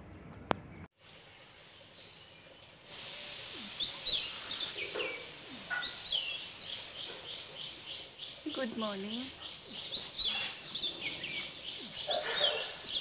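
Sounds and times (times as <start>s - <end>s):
birds chirping: 0.6s - 13.0s
steady high hiss: 1.0s - 13.0s.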